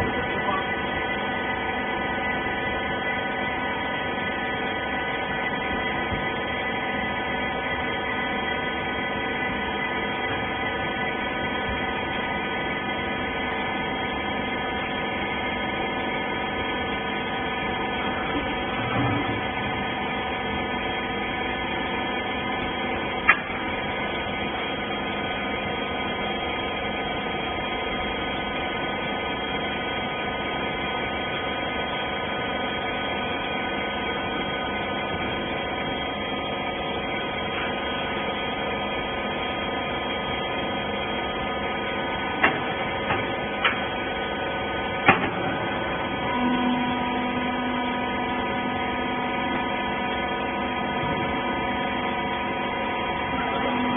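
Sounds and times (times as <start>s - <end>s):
baler pump motor humming: 0.0s - 53.9s.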